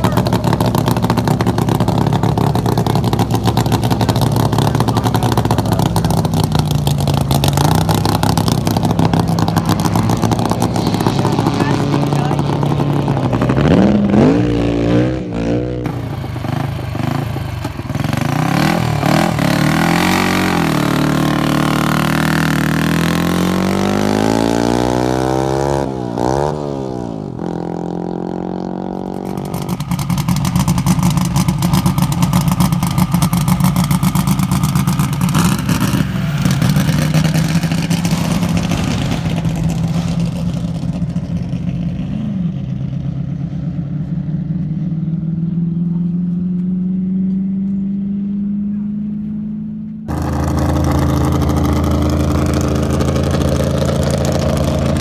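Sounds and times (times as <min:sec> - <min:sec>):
fast-firing engine: 0:00.0 - 0:47.1, 0:48.0 - 0:55.0
race car engines running hard: 0:00.0 - 0:55.0.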